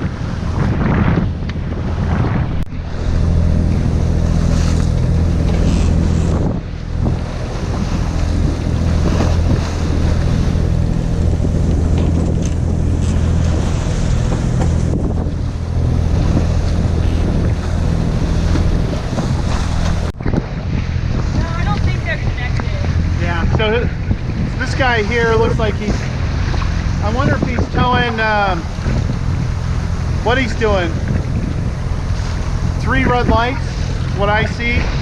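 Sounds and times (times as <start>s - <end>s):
boat engine droning: 0.0s - 35.0s
water noise: 0.0s - 35.0s
wind buffeting microphone: 0.0s - 35.0s.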